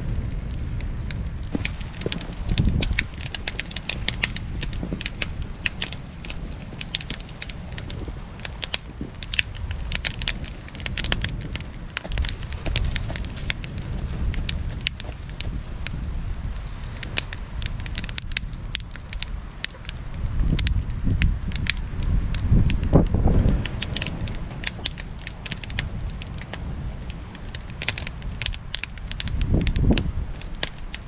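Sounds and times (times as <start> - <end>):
sharp crackling and popping: 0.0 - 31.0
steady low rumble: 0.0 - 31.0.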